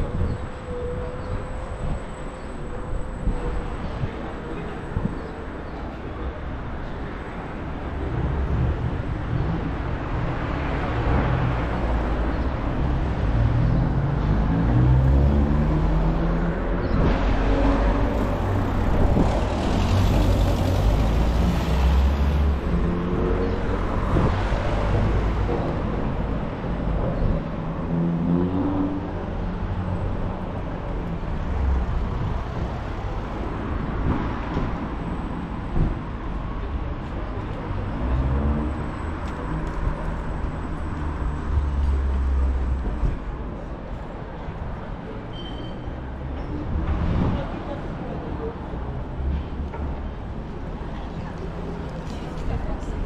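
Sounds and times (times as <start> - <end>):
car engines passing and accelerating: 0.0 - 53.0
low traffic rumble: 0.0 - 53.0.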